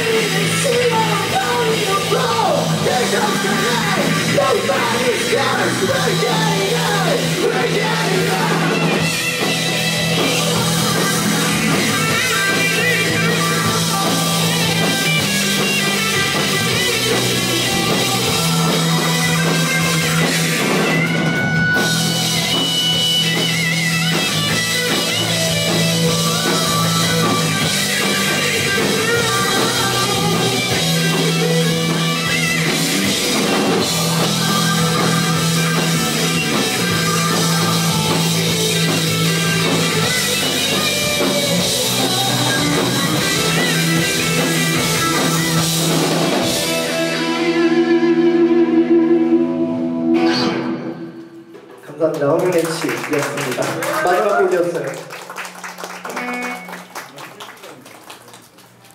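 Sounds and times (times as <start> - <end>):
drum kit: 0.0 - 48.6, 50.2 - 57.1
bass: 0.0 - 58.9
guitar: 0.0 - 58.9.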